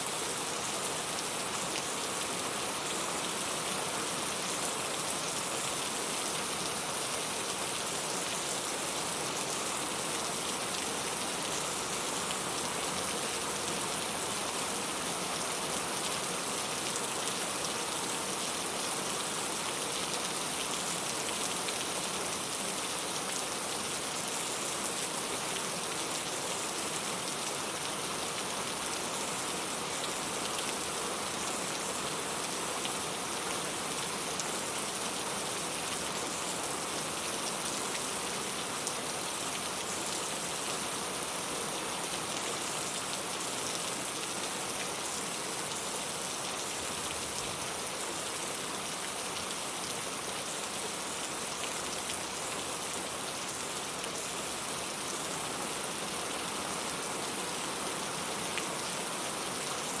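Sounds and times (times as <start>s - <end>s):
rain pattering on a surface: 0.1s - 60.0s.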